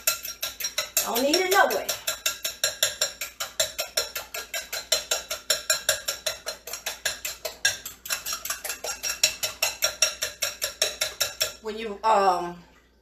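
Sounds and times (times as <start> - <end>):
utensil clicking against bowl: 0.0 - 11.6.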